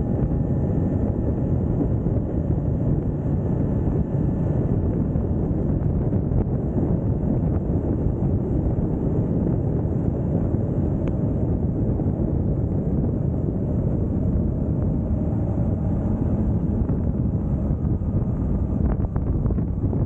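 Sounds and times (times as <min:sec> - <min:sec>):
motorbike engine running: 0:00.0 - 0:20.0
wind buffeting microphone: 0:00.0 - 0:20.0.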